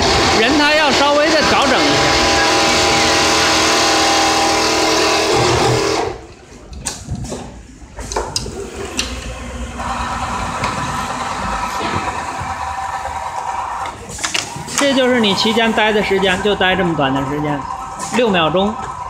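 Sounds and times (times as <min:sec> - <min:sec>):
sewing machine running: 0:00.0 - 0:06.2, 0:08.5 - 0:19.0.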